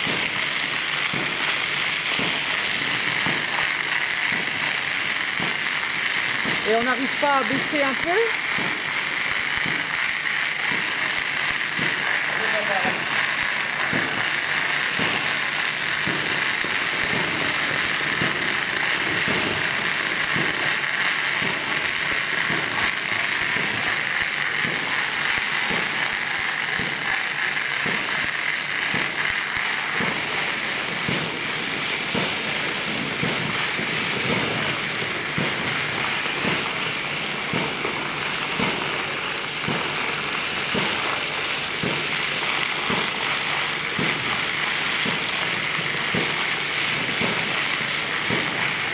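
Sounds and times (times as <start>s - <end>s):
foam spraying from hose: 0.0s - 48.9s.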